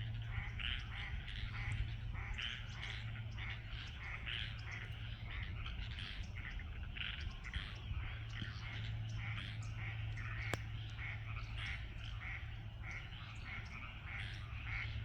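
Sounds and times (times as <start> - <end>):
ducks calling: 0.2 - 15.0
frogs calling: 0.2 - 15.0.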